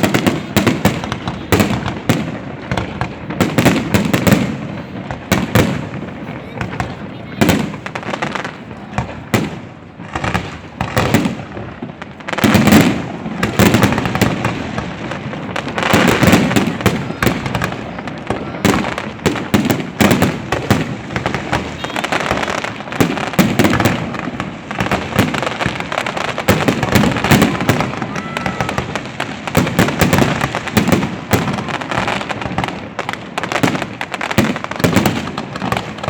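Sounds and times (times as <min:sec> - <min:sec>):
fireworks bangs and crackles: 0:00.0 - 0:36.0
fireworks booms: 0:00.0 - 0:36.0.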